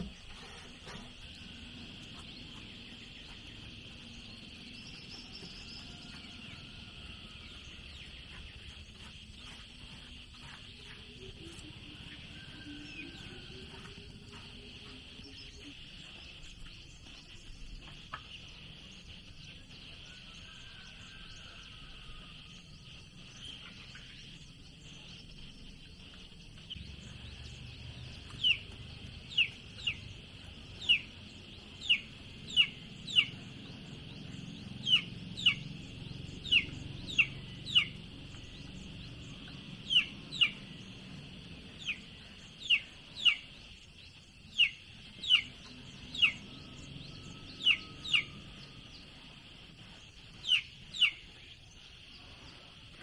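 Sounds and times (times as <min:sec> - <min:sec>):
bird chirps: 0:00.0 - 0:53.0.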